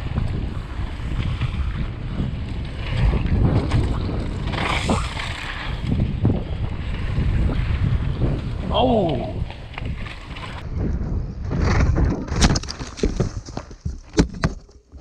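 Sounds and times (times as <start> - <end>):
wind buffeting microphone: 0.0 - 14.0
mountain bike rolling on dirt: 0.0 - 15.0.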